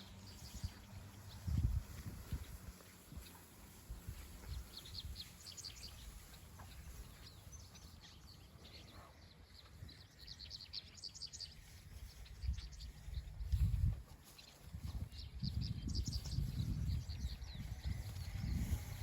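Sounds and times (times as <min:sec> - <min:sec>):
swallows twittering: 0:00.0 - 0:19.0.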